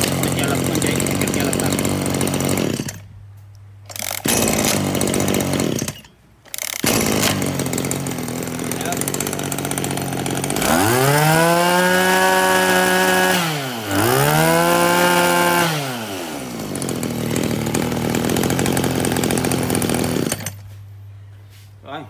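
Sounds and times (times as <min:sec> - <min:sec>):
brush cutter engine revving: 0:00.0 - 0:03.1, 0:03.8 - 0:20.6.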